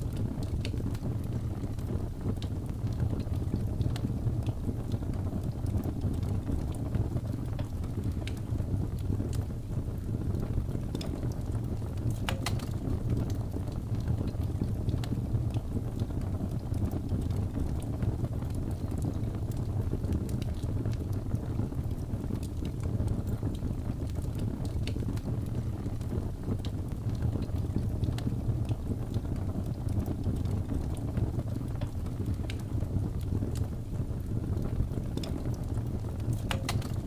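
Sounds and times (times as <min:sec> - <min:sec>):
low fire rumble: 0:00.0 - 0:37.0
wood crackling and popping: 0:00.0 - 0:37.0.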